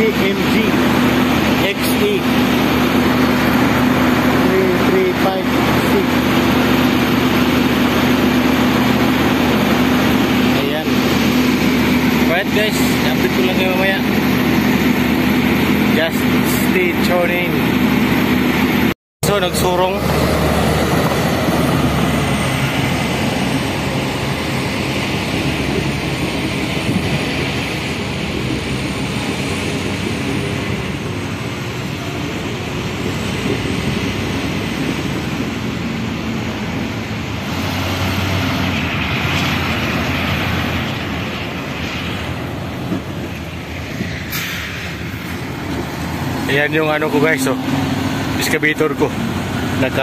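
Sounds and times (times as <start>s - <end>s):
heavy machinery diesel engines rumbling: 0.0s - 50.0s.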